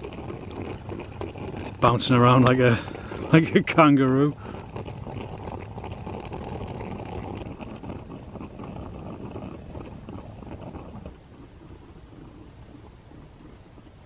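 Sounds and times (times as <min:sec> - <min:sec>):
campfire crackles: 0:00.0 - 0:14.0
coffee percolator bubbling: 0:00.0 - 0:14.0.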